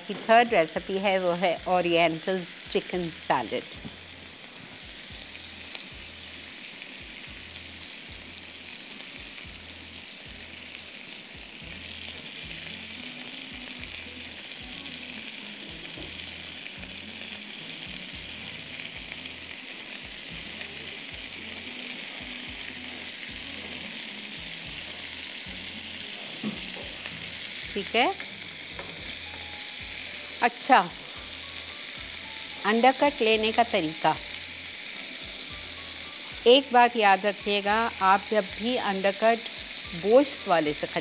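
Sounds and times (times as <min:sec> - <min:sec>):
food sizzling in oil: 0:00.0 - 0:41.0
quiet music with low beat: 0:00.1 - 0:41.0.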